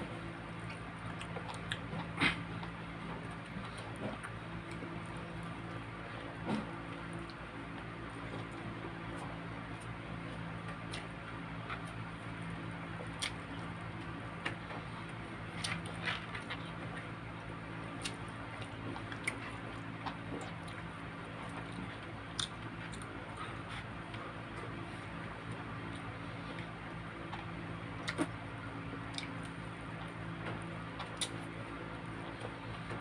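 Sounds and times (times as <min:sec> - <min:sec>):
steady low hum: 0:00.0 - 0:33.0
chewing and lip smacks: 0:00.1 - 0:33.0.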